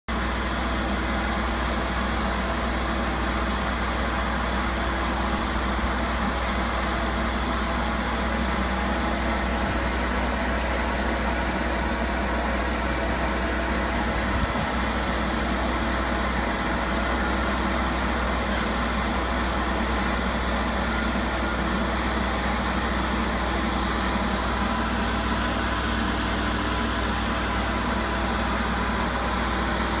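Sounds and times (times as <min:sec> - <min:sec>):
truck engine and vacuum pump drone: 0:00.1 - 0:30.0.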